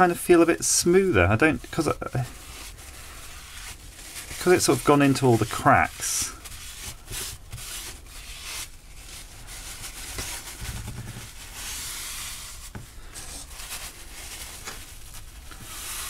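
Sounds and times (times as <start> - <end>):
paper towel rubbing on glass: 0.0 - 16.0.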